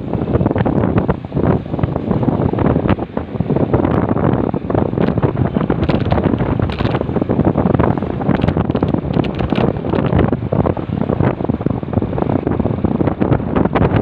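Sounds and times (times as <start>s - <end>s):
wind buffeting on microphone: 0.0s - 14.0s.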